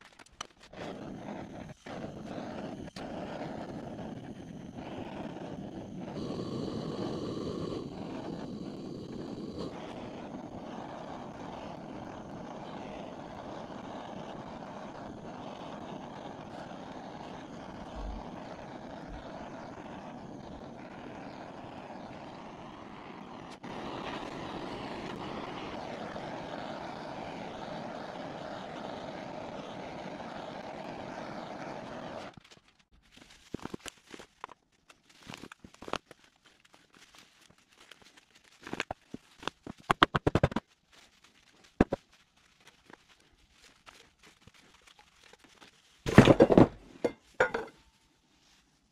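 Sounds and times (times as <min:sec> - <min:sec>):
blowtorch flame hissing: 0:00.1 - 0:32.6, 0:37.7 - 0:40.6, 0:43.6 - 0:47.7.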